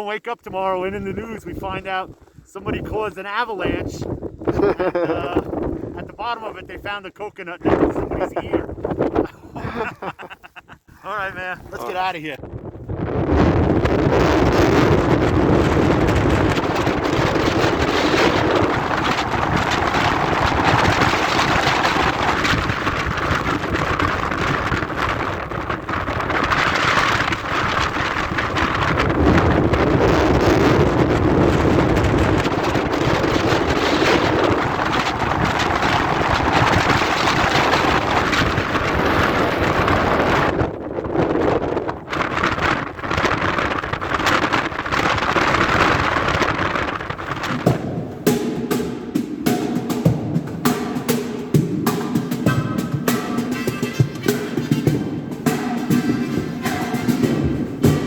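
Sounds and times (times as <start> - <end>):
strong wind on microphone: 0.2 - 10.2, 10.9 - 58.0.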